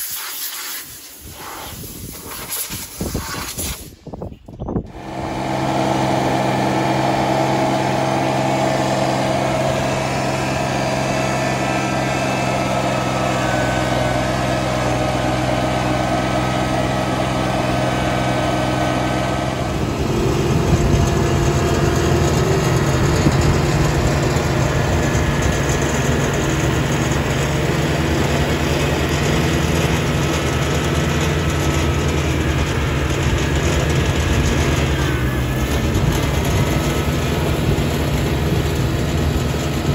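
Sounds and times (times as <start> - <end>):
tractor engine mowing: 4.8 - 39.9.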